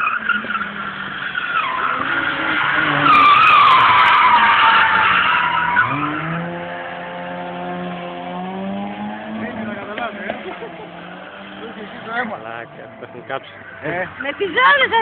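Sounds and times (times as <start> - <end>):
car engine revving: 0.0 - 15.0
car tyres screeching: 0.0 - 15.0.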